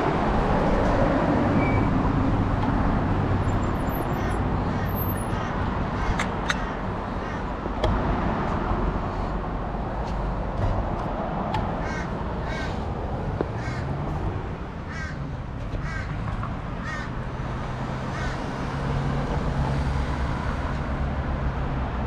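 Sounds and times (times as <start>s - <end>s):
low hum and rushing noise: 0.0s - 22.0s.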